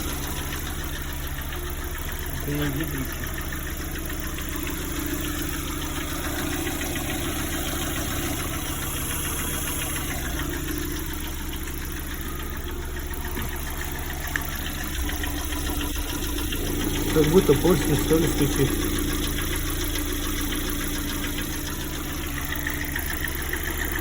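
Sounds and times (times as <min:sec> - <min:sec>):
car engine idling: 0:00.0 - 0:24.0
engine knocking: 0:00.0 - 0:24.0.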